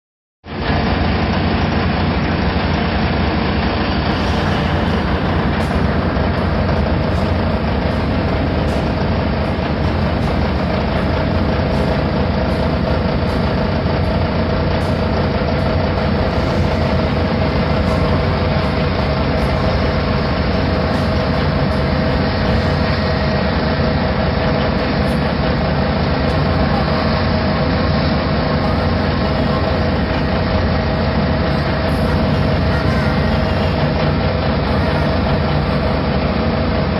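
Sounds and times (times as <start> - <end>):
heavy engine running: 0.4 - 36.9.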